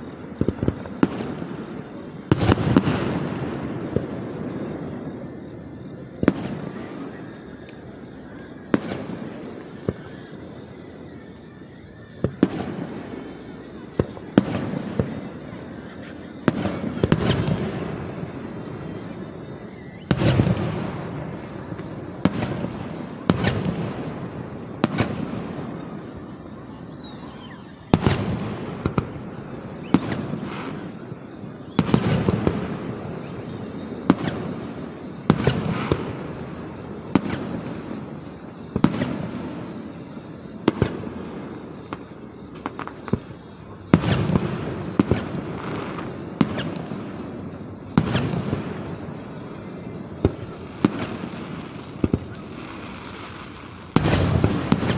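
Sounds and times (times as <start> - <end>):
crackling firework bursts: 0.0 - 54.9
firework bangs with echo: 0.0 - 54.9.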